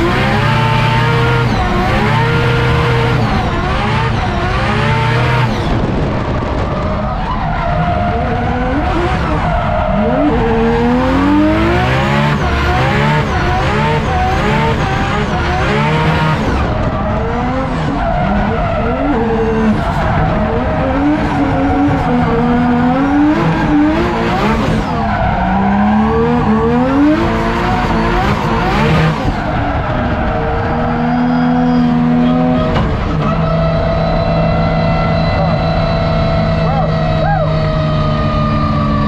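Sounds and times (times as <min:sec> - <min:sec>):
car engine revving hard: 0:00.0 - 0:39.0
tyres squealing and skidding: 0:06.6 - 0:39.0.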